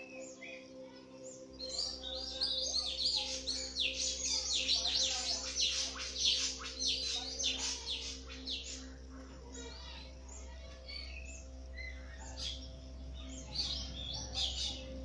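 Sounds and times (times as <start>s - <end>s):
birds chattering: 0.0s - 15.0s.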